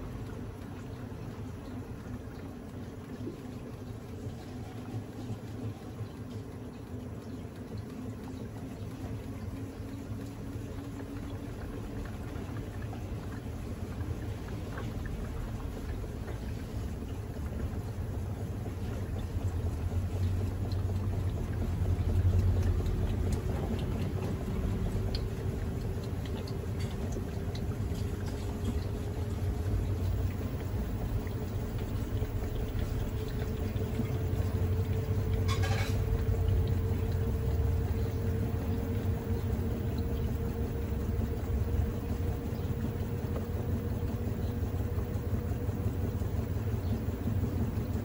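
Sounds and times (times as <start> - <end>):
washing machine motor whine: 0.0 - 48.0
water draining: 0.0 - 48.0.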